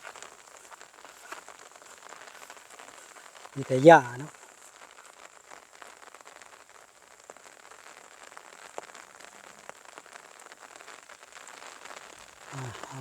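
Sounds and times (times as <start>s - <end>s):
light rain patter: 0.0s - 13.0s.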